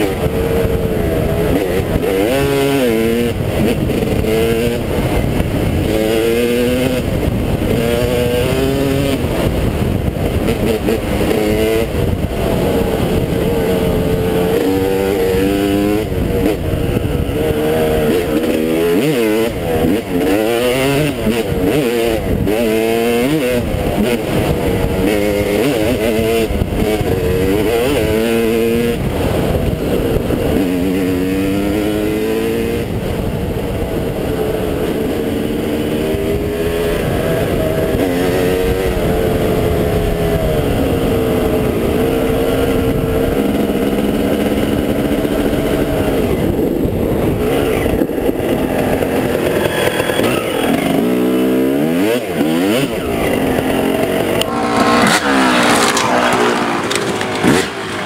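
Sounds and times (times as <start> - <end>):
dirt bike engine revving: 0.0 - 58.0
wind buffeting microphone: 0.0 - 58.0.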